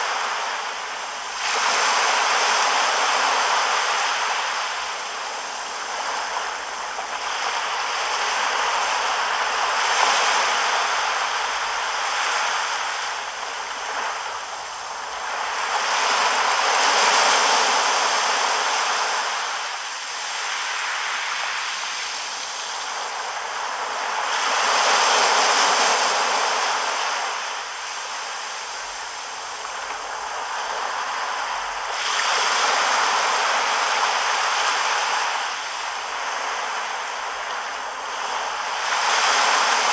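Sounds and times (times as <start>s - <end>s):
surf washing up a beach: 0.0s - 39.9s.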